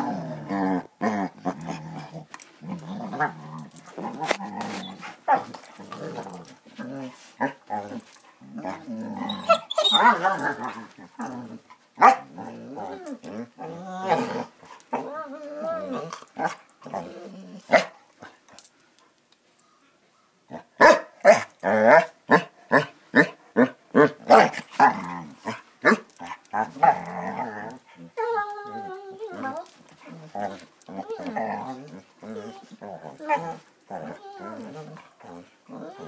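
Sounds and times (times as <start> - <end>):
dogs growling: 0.0 - 17.7, 21.6 - 36.0
dogs play barking: 1.4 - 15.1, 20.5 - 36.0.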